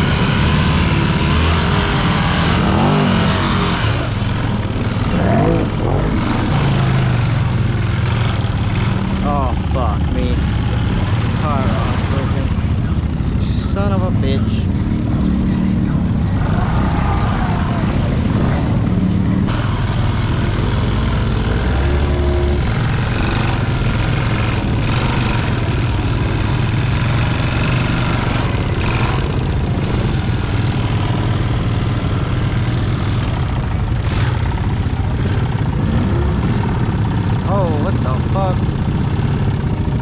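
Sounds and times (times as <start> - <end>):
atv engine droning: 0.0 - 40.0.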